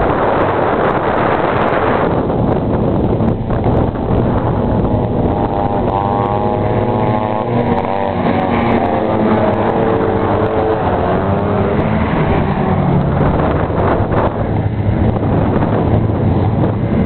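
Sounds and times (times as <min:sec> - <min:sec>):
snowmobile engines revving: 0:00.0 - 0:17.0
wind noise on microphone: 0:00.0 - 0:17.0.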